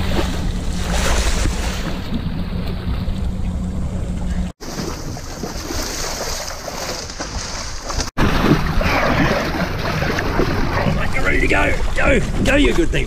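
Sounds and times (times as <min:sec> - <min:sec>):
water splashing at boat side: 0:00.0 - 0:03.6, 0:04.6 - 0:13.0
boat engine hum: 0:00.0 - 0:13.0.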